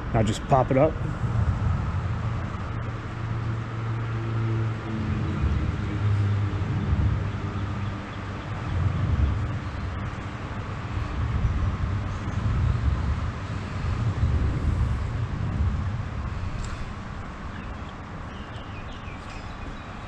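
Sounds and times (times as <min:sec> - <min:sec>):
steady outdoor hiss: 0:00.0 - 0:20.0
wind buffeting microphone: 0:00.0 - 0:20.0.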